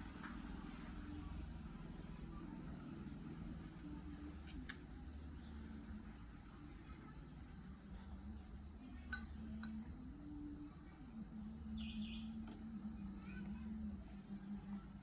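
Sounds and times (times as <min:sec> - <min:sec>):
faint low wavering hum: 0:00.0 - 0:15.0
crickets chirring: 0:00.4 - 0:15.0.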